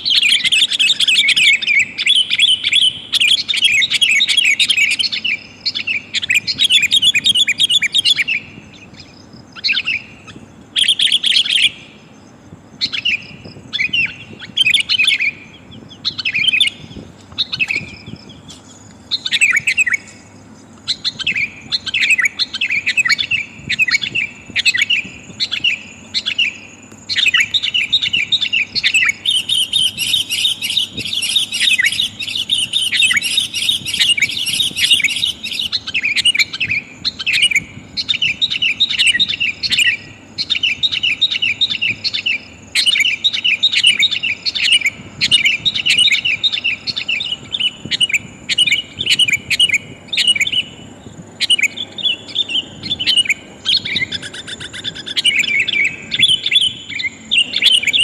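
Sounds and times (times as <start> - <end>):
bulbul chattering calls: 0.0 - 58.0.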